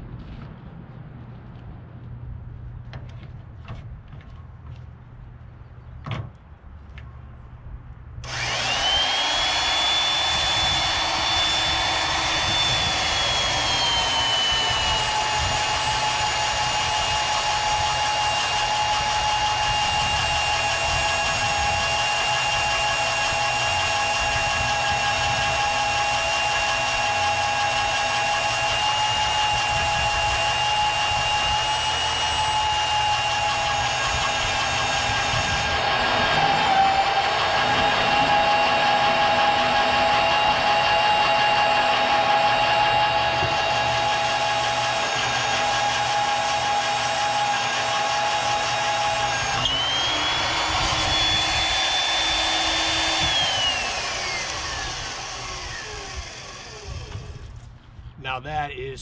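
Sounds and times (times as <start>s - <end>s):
magnetic drill boring through steel: 8.2s - 57.6s.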